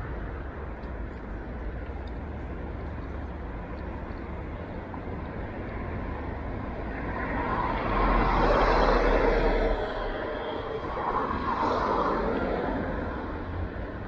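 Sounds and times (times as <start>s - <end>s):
street traffic noise: 0.0s - 14.0s
wind rumble: 0.0s - 14.0s.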